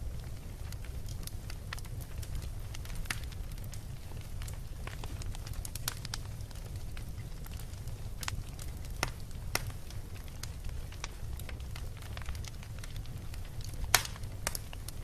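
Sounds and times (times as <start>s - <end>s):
bonfire crackling: 0.0s - 15.0s
fire popping: 0.0s - 15.0s.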